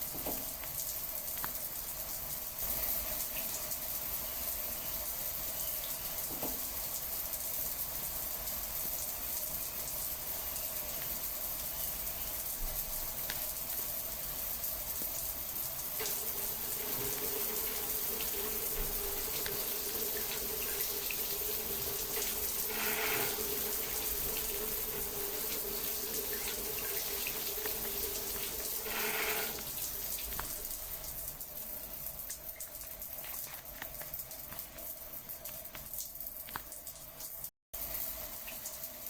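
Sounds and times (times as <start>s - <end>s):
water running: 0.0s - 39.0s.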